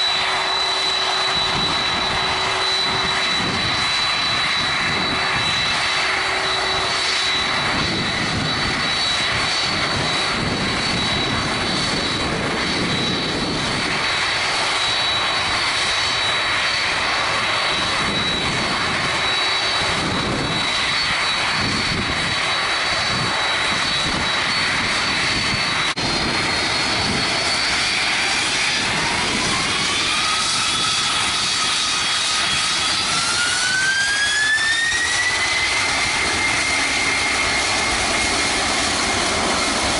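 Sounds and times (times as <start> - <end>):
jet engines spooling up: 0.0 - 39.9
jet engines whining: 0.0 - 39.9.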